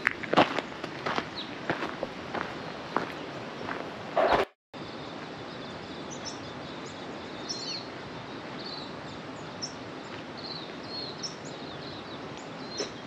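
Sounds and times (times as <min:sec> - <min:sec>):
outdoor background noise: 0:00.0 - 0:13.0
small birds chirping: 0:00.5 - 0:01.8, 0:02.4 - 0:13.0.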